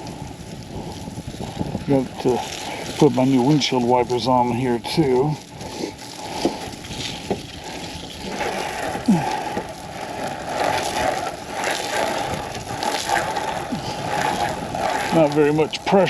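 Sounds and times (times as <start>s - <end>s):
hose water spraying against truck: 0.0s - 16.0s.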